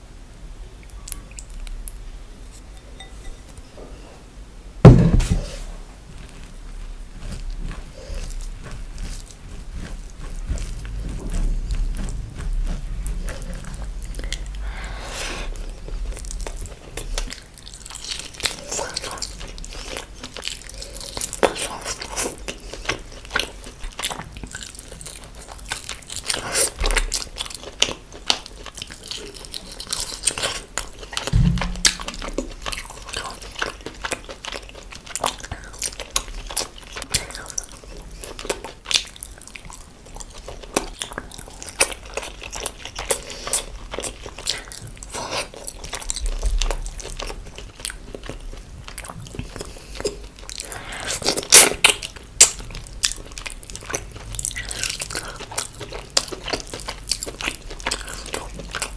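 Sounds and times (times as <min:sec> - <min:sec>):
person chewing crunchy food: 0:06.2 - 0:58.9.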